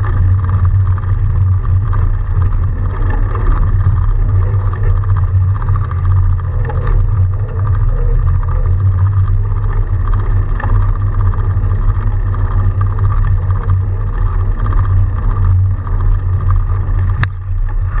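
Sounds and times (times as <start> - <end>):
bike riding through snow: 0.0 - 18.0.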